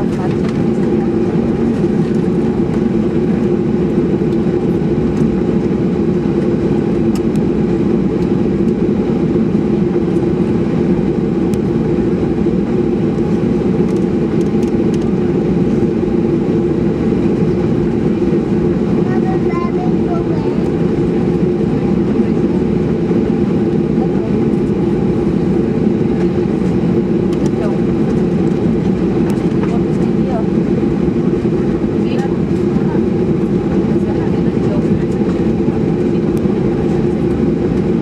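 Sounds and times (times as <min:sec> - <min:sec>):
jet engine cabin drone: 0:00.0 - 0:38.0.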